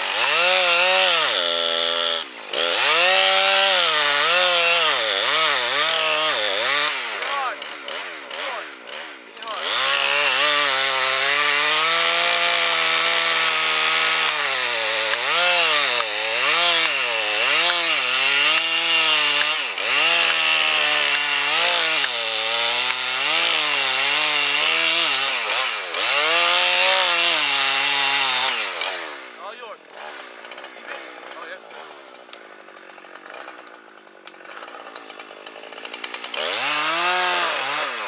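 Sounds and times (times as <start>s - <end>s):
chainsaw cutting wood at full throttle: 0.0s - 38.0s.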